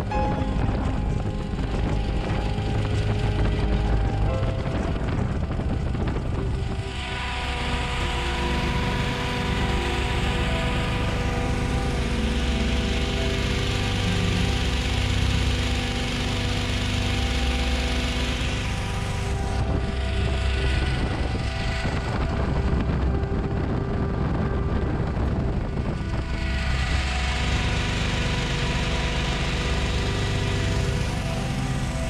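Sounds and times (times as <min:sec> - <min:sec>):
inflator fan engine drone: 0:00.0 - 0:32.0.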